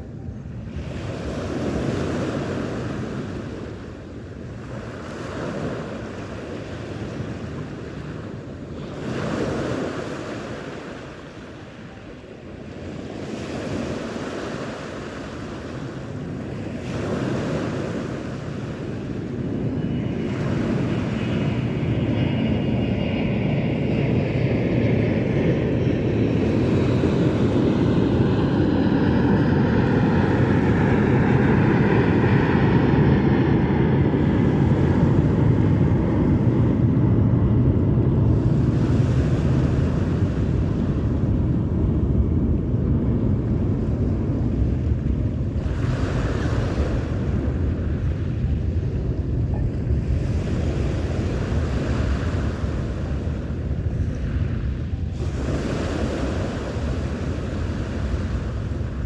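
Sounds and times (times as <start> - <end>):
sea waves washing ashore: 0.0 - 59.0
wind on microphone: 0.0 - 59.0.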